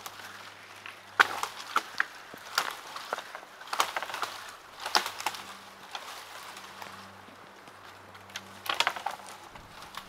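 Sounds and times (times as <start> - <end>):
sticks snapping underfoot: 0.0 - 10.0.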